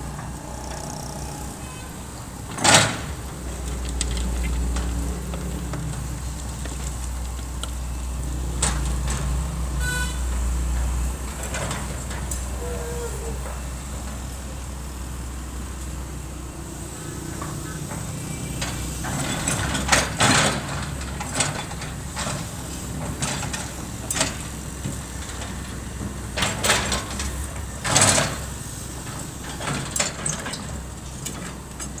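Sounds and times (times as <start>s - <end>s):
excavator arm and bucket noises: 0.0s - 16.0s, 16.6s - 32.0s
diesel engine running: 0.0s - 32.0s.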